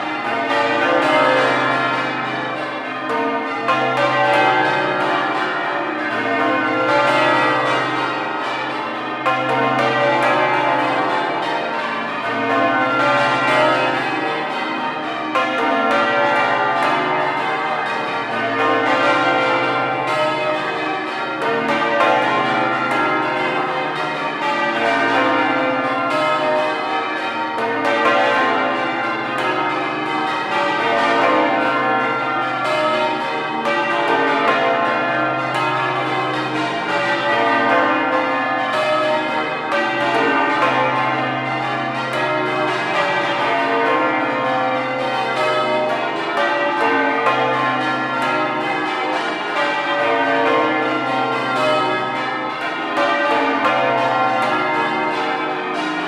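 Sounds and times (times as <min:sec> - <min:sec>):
church bells change ringing: 0:00.0 - 0:56.0.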